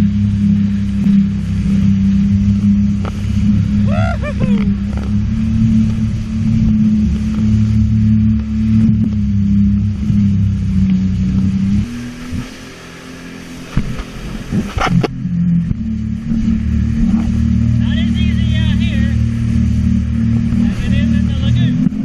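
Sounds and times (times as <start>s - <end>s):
jet ski engine running: 0.0s - 22.0s.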